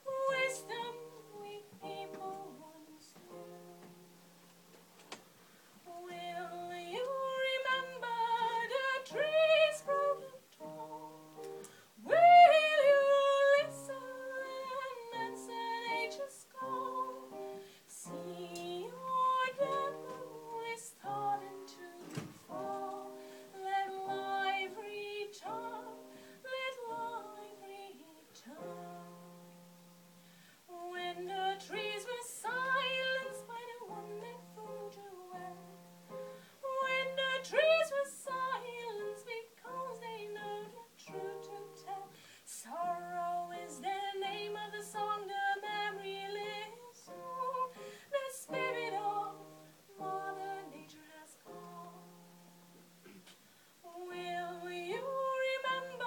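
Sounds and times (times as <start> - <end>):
woman singing: 0.0 - 4.3, 5.8 - 29.4, 30.7 - 52.4, 53.8 - 56.0
piano accompaniment: 0.0 - 53.2, 53.8 - 56.0.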